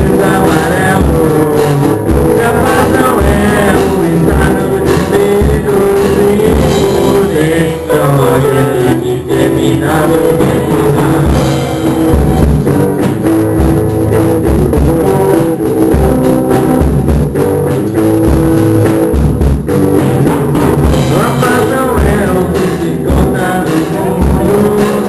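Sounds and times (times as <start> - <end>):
band playing a song: 0.0 - 25.0.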